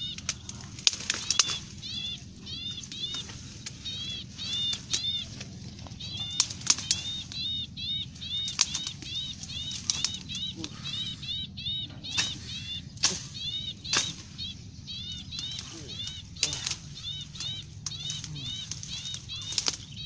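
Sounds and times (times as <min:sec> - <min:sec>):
twigs snapping: 0:00.0 - 0:11.2, 0:12.0 - 0:20.0
leafy branches rustling: 0:00.0 - 0:20.0
small bird chirping: 0:00.0 - 0:20.0.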